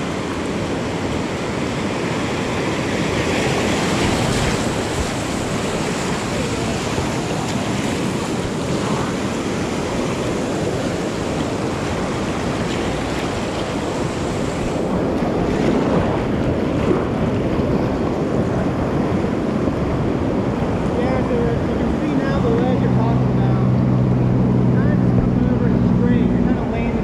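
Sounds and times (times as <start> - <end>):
river rapids rushing: 0.0 - 27.0
wind buffeting microphone: 0.0 - 27.0.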